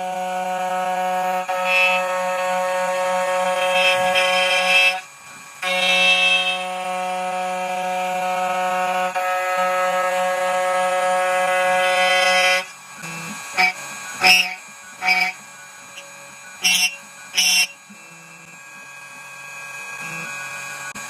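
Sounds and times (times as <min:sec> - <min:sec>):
key cutting machine whining: 0:00.0 - 0:21.0.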